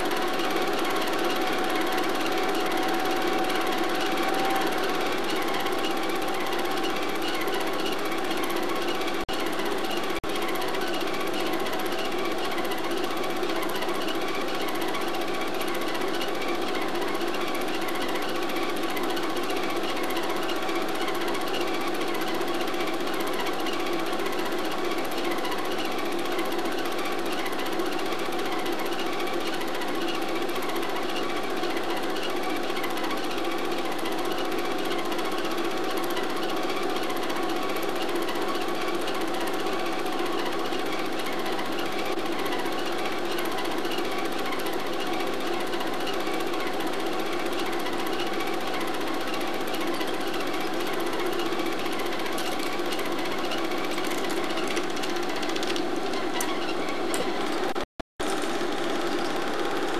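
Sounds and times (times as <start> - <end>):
film projector clatter: 0.0 - 59.9.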